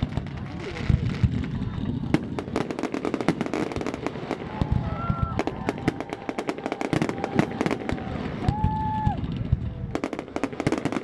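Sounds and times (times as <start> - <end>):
fireworks bangs and crackles: 0.0 - 11.0
fireworks whistling: 0.0 - 11.0.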